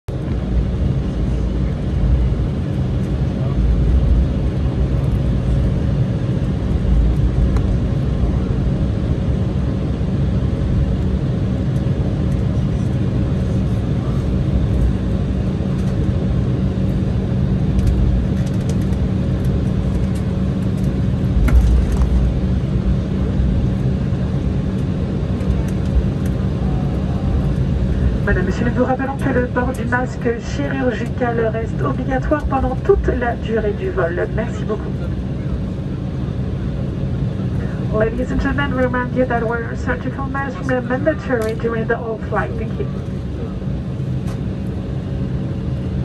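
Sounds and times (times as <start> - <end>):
airliner cabin drone: 0.1 - 46.0.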